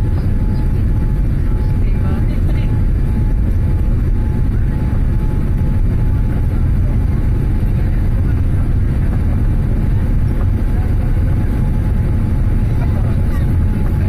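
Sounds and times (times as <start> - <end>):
airplane cabin engine noise: 0.0 - 14.0.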